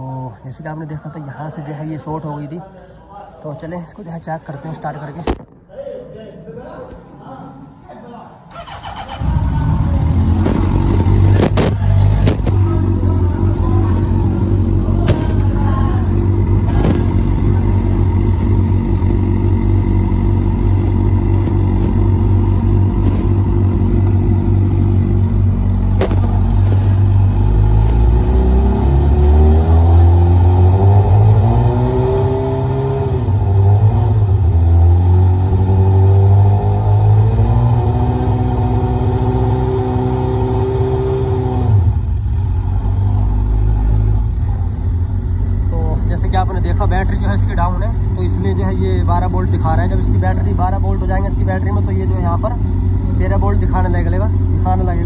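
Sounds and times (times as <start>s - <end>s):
motorcycle engine idling and revving: 8.5s - 55.0s.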